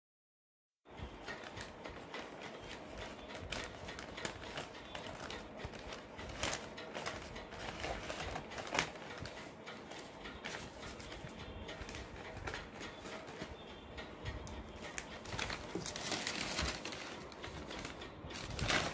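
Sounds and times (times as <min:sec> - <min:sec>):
paper crackling and rustling: 0:01.2 - 0:13.6, 0:14.8 - 0:18.9.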